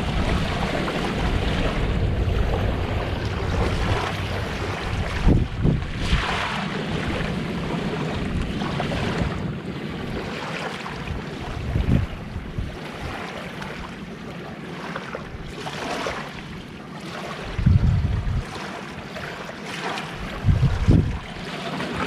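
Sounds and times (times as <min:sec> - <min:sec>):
wind buffeting microphone: 0:00.0 - 0:14.4, 0:17.4 - 0:19.3, 0:20.0 - 0:22.0
sea surf washing on shore: 0:00.0 - 0:22.0.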